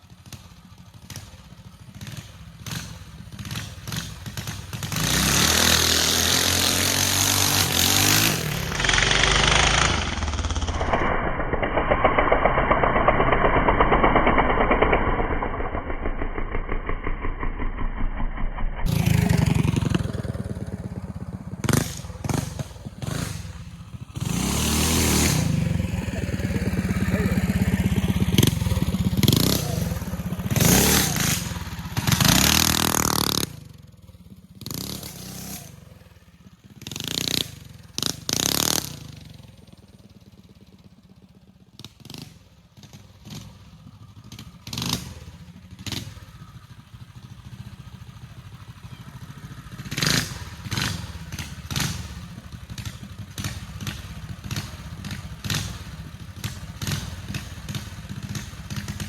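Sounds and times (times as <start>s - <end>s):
mini bike engine revving: 0.0s - 59.0s.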